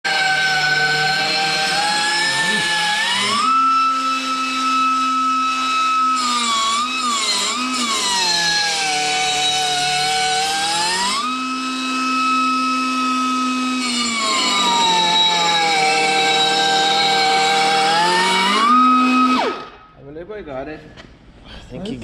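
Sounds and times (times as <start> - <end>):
grinder motor whining: 0.0 - 19.8.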